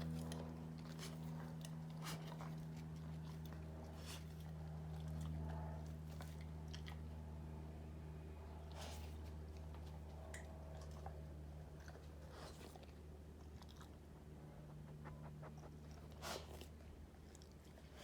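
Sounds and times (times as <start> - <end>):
dog chewing and crunching food: 0.0 - 18.0
steady low hum: 0.0 - 18.0.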